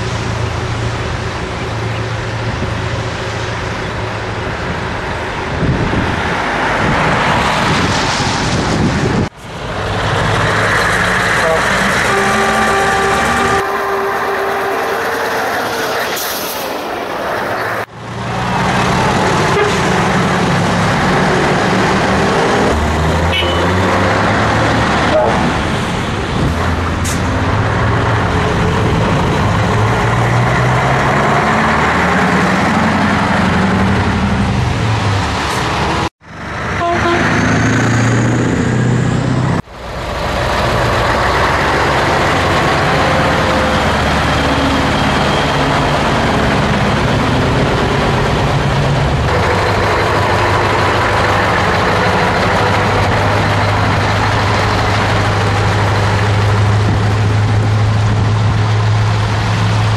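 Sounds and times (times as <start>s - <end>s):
diesel trucks revving past: 0.0s - 59.9s.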